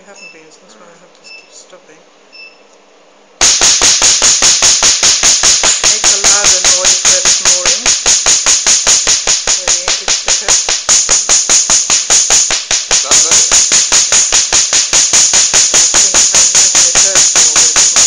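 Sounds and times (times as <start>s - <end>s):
laser snapping pulses: 3.4s - 18.0s.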